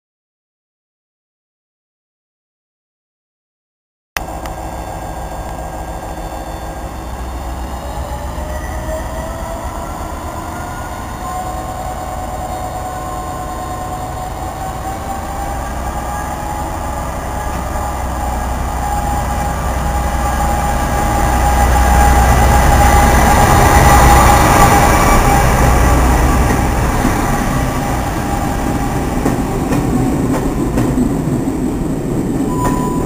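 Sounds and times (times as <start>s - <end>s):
diesel locomotive engine whine: 4.2s - 33.0s.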